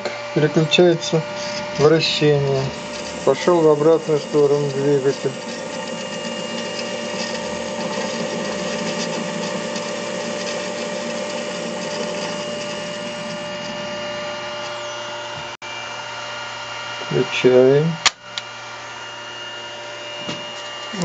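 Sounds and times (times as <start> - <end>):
lathe motor humming with whine: 0.0 - 21.0.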